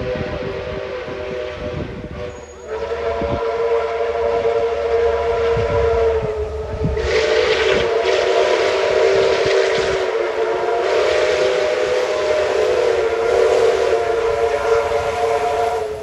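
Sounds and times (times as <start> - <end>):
hiss of steam and exhaust: 0.0 - 16.0
steam locomotive whistles: 0.0 - 16.0.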